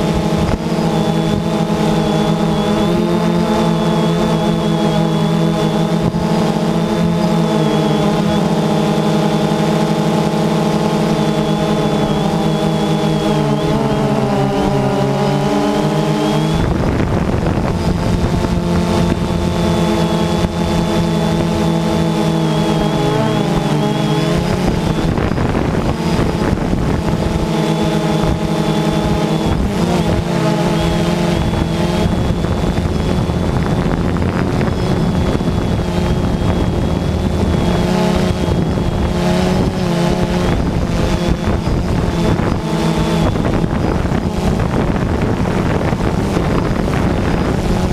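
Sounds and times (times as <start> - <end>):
drone propellers humming: 0.0 - 47.9
high-pitched motor whine: 0.0 - 47.9.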